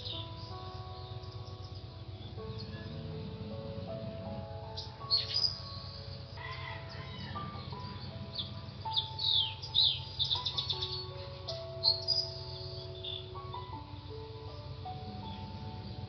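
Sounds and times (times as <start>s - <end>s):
small birds chirping and trilling: 0.0s - 16.0s
soft background music: 0.0s - 16.0s.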